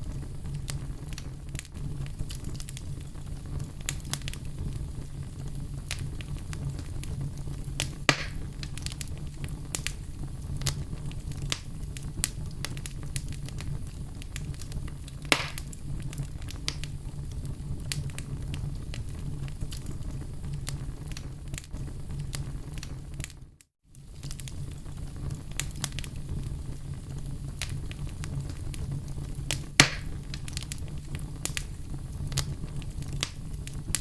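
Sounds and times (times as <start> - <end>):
fire crackling and popping: 0.0 - 34.0
loud fire snaps: 0.0 - 34.0.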